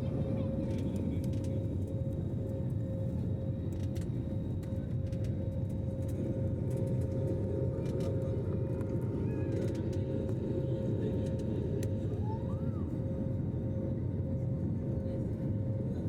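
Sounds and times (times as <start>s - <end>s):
aeroplane engines droning: 0.0s - 16.0s.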